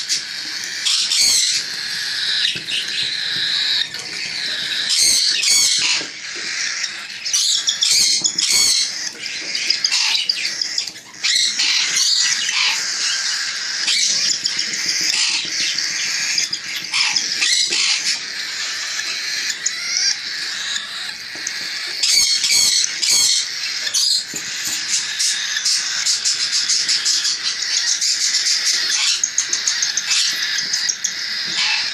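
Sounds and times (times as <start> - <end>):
parrot screeches: 0.0 - 31.9
parrots squawking and chattering: 0.0 - 31.9.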